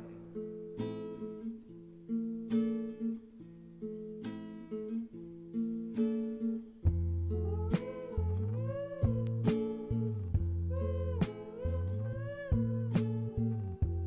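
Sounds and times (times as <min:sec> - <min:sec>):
acoustic guitar chords strummed: 0:00.0 - 0:14.0.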